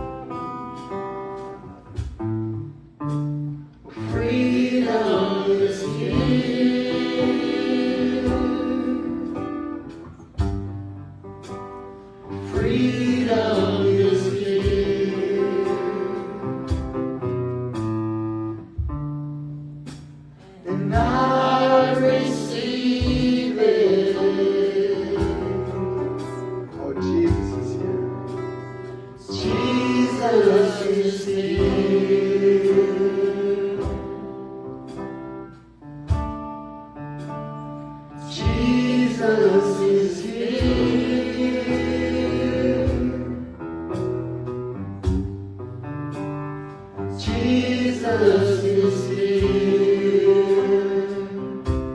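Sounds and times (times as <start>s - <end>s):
instrumental backing: 0.0s - 51.9s
choir singing gospel: 3.9s - 10.8s, 11.9s - 18.6s, 20.5s - 35.5s, 37.8s - 45.3s, 46.3s - 51.9s.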